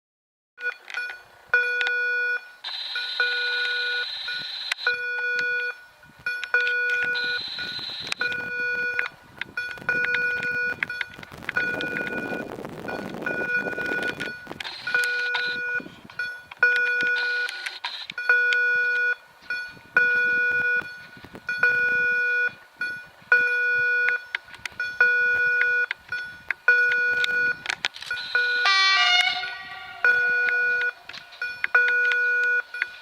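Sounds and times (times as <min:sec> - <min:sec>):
level crossing warning beeps: 0:00.6 - 0:33.0.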